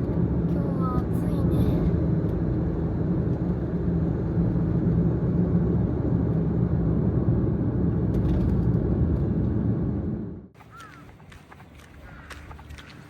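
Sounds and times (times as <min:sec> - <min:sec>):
road and engine rumble in cabin: 0:00.0 - 0:13.0.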